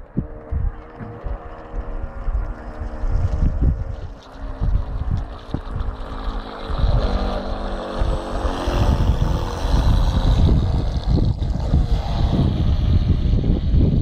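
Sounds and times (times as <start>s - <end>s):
electric motor whine: 0.0s - 14.0s
wind buffeting microphone: 0.0s - 14.0s.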